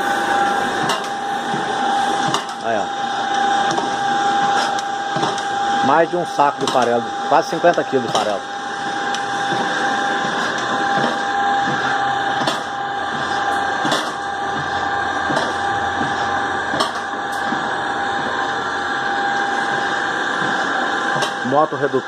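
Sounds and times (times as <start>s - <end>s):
motor hum and whine: 0.0s - 22.0s.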